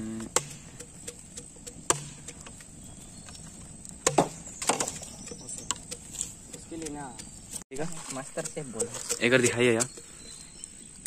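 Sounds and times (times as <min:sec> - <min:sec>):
bamboo knocking and clicking: 0:00.2 - 0:10.2.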